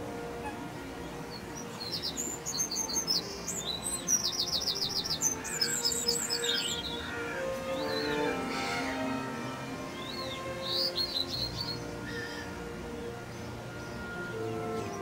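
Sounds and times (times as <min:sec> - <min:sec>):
birds chirping: 0:00.0 - 0:15.0
soft background music: 0:00.0 - 0:15.0.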